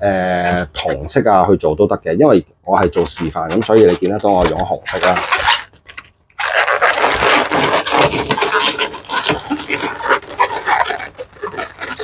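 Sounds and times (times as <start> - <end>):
balloons rubbing and squeaking: 0.0 - 1.6, 2.3 - 12.0.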